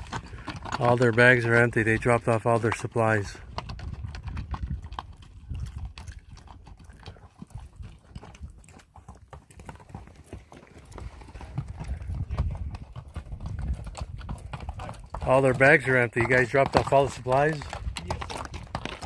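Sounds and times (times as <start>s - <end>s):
hooves clip-clopping: 0.0s - 19.0s.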